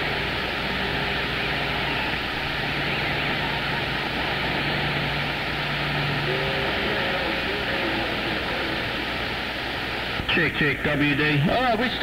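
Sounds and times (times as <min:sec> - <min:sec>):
low steady hum: 0:00.0 - 0:12.0
radio static hiss: 0:00.0 - 0:12.0.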